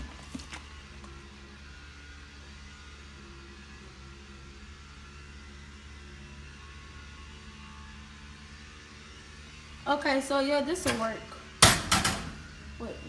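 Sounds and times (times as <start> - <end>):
machine hum with faint whir: 0.0 - 13.0.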